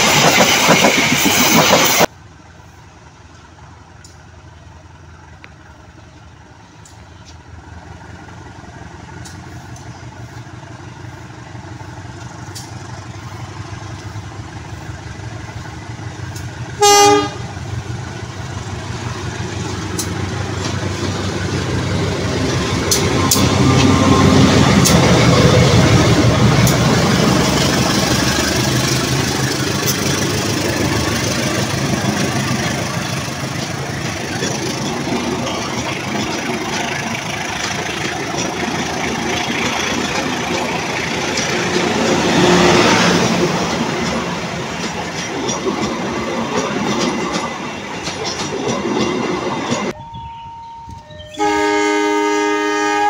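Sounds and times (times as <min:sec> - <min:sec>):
coaches rumbling on rails: 0:00.0 - 0:53.0
locomotive engine passing: 0:00.0 - 0:53.0.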